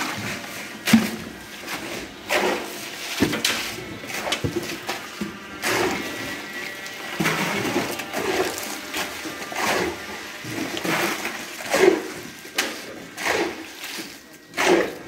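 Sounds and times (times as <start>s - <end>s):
tools scraping wet concrete: 0.0s - 15.0s.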